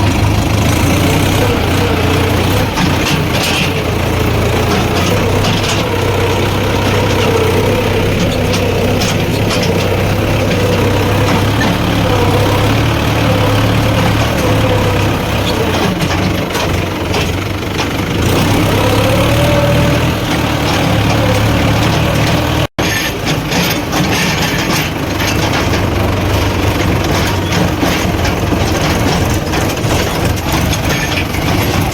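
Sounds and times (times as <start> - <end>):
diesel engines running: 0.0 - 31.9
engine whine: 0.0 - 31.9
scattered knocks: 0.0 - 31.9.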